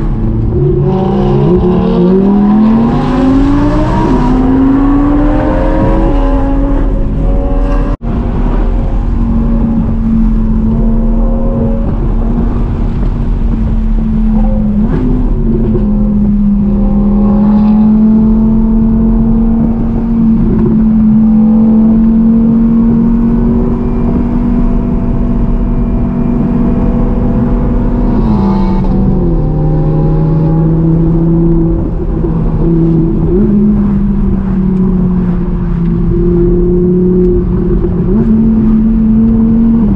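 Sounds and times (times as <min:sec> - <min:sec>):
car engine droning: 0:00.0 - 0:39.9
road and wind noise: 0:00.0 - 0:39.9.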